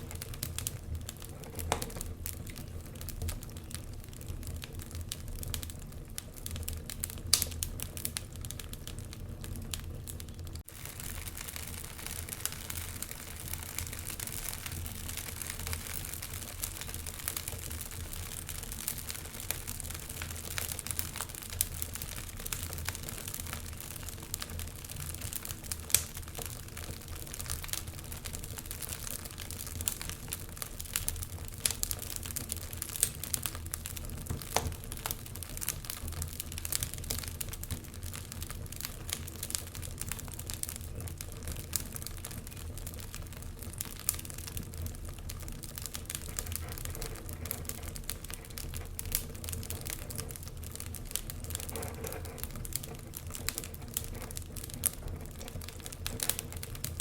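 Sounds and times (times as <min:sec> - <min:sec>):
fire low rumble: 0:00.0 - 0:57.0
wood fire crackling: 0:00.0 - 0:57.0.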